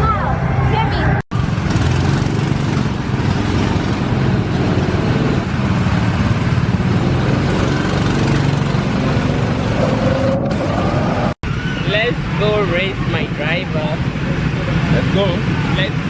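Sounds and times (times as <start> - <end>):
go-kart engines running: 0.0 - 16.0.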